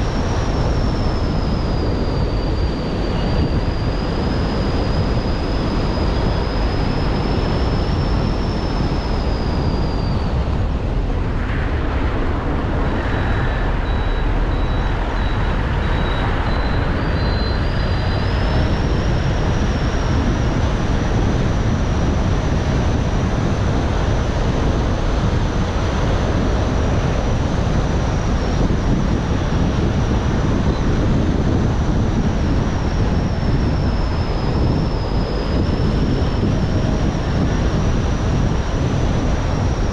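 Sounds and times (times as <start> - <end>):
car engine and tyre noise: 0.0 - 39.9
thin high whine: 0.0 - 39.9.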